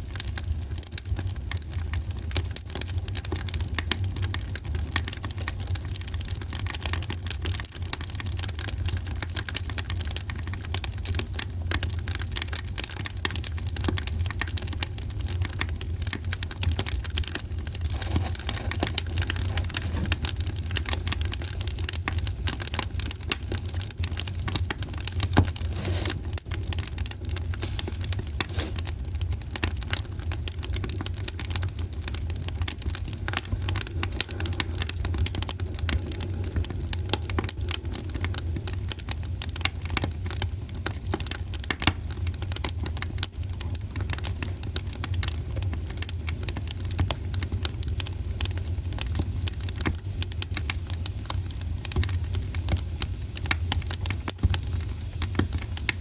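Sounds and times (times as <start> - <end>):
fire crackling in a fireplace: 0.0 - 56.0.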